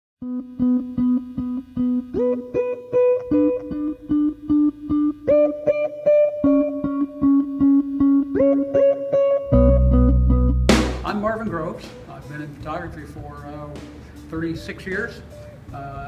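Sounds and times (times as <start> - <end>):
plucked guitar music: 0.2 - 16.0.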